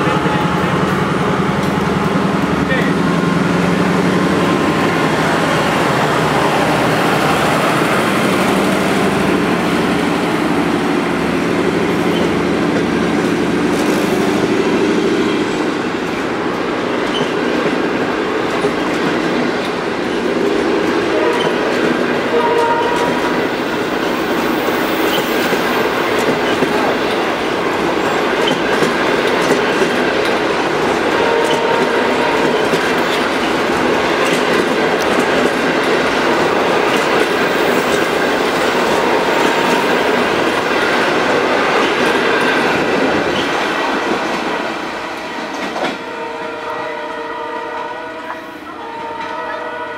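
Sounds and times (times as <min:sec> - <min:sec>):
train wheels rumbling on rails: 0:00.0 - 0:47.2.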